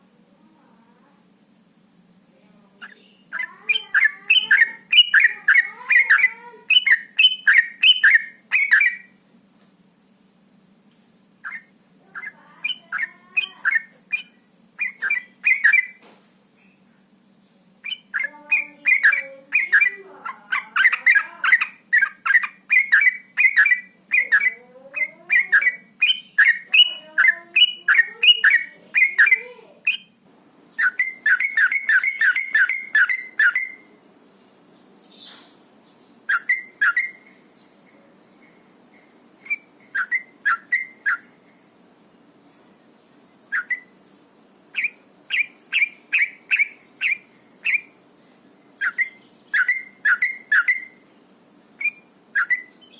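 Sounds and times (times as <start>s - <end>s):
bulbul singing fast chattering song: 2.3s - 9.2s, 11.4s - 16.0s, 16.6s - 52.9s.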